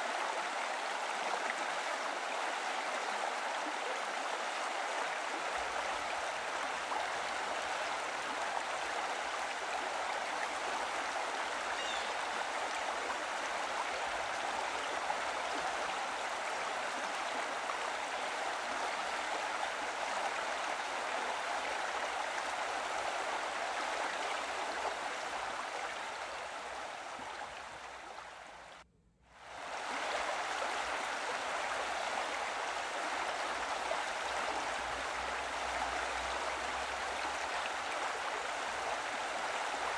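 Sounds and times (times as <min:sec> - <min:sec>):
running water rushing: 0:00.0 - 0:28.8, 0:29.4 - 0:39.9.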